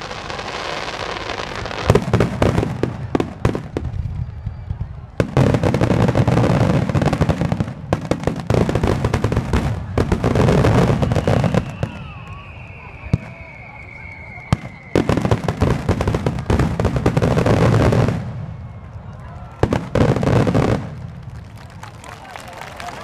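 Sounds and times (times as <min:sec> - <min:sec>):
fireworks booming and crackling: 0:00.0 - 0:21.6.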